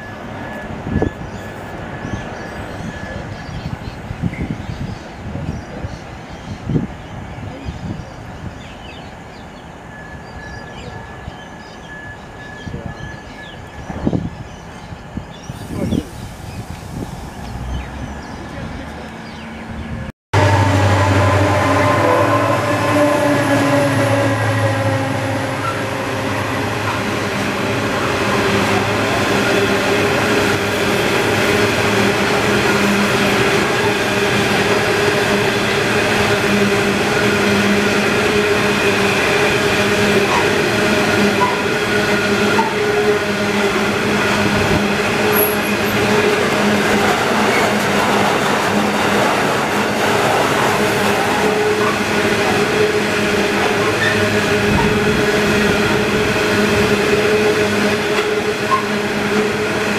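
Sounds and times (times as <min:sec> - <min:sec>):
steel wheels rumbling on rail: 0:09.2 - 0:59.9.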